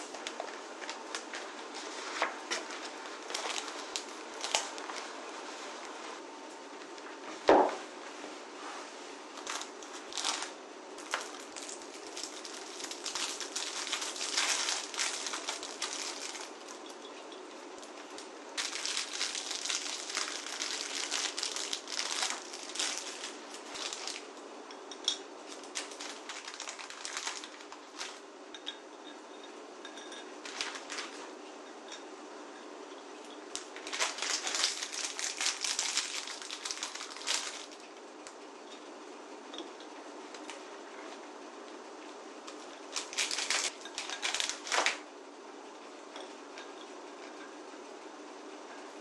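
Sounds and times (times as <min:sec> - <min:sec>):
rustling and scraping of objects: 0:00.0 - 0:38.9, 0:42.4 - 0:45.0
low room hum: 0:00.0 - 0:49.0.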